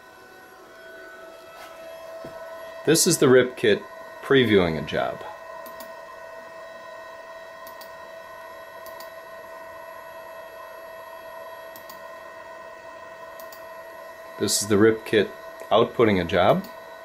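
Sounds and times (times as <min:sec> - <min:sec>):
equipment humming: 0:00.0 - 0:17.0.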